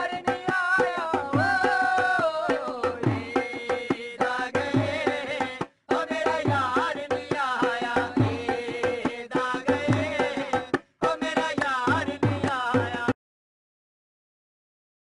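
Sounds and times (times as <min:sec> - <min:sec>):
tabla drum strokes: 0:00.0 - 0:13.2.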